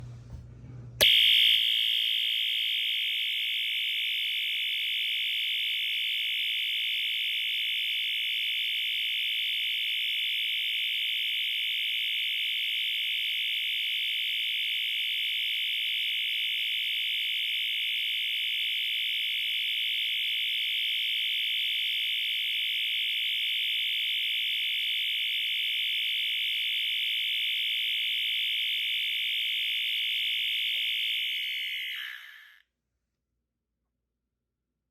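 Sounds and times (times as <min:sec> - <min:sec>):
fire alarm horn tone: 0:01.0 - 0:32.5.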